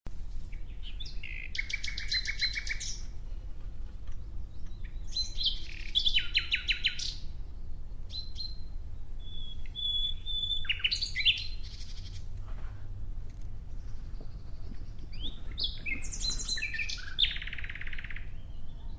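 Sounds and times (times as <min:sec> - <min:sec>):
low background rumble: 0:00.1 - 0:18.9
nightingale singing: 0:00.5 - 0:03.2, 0:04.1 - 0:12.4, 0:13.7 - 0:18.9.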